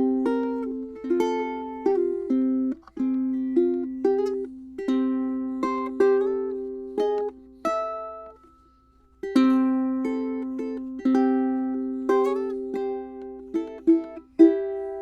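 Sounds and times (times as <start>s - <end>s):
ukulele plucked notes and chords: 0.0s - 15.0s.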